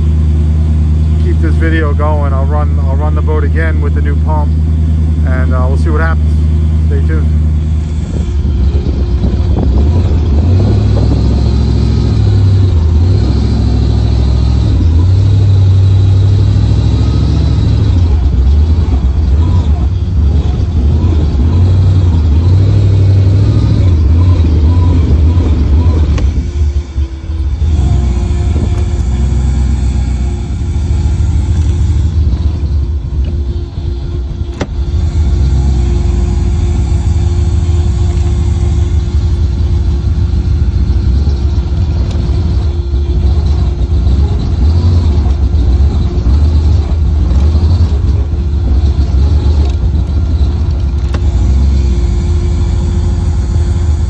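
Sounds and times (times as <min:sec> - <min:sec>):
boat engine rumbling: 0:00.0 - 0:54.0
constant hum: 0:00.0 - 0:54.0.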